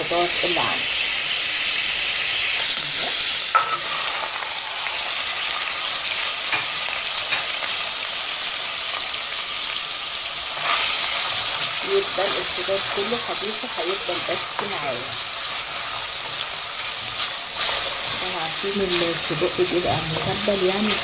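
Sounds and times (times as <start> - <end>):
onions sizzling in fat: 0.0 - 21.0.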